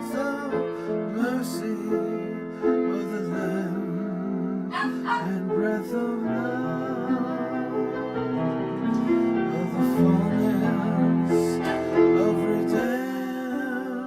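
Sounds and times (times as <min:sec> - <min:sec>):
slow piano and keyboard music: 0:00.0 - 0:14.0.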